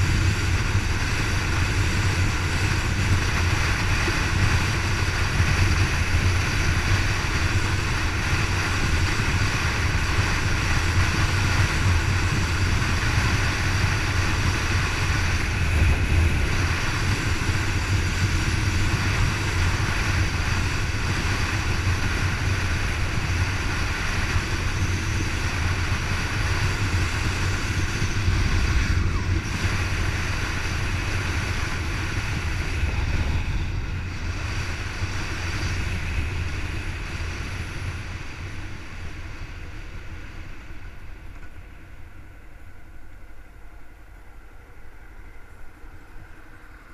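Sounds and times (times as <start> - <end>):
motorcycle engine running: 0.0 - 43.2
wind rushing over microphone: 0.0 - 46.9.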